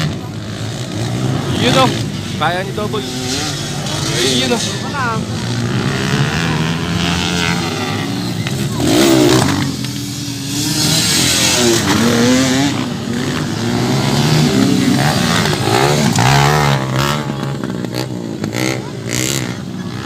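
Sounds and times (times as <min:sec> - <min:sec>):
motocross bikes revving: 0:00.0 - 0:20.0.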